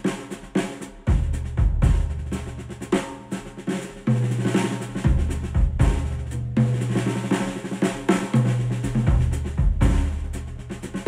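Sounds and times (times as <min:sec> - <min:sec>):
drum-led instrumental music: 0:00.0 - 0:11.0
snare and bass drum hits: 0:00.0 - 0:11.0.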